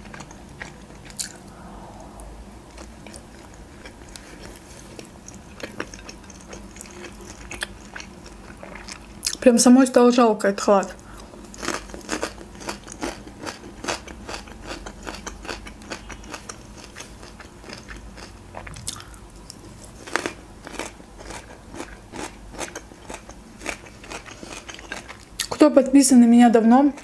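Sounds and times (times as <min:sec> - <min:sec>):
person chewing crunchy radish: 0:00.0 - 0:01.6, 0:02.7 - 0:09.4, 0:11.0 - 0:25.6.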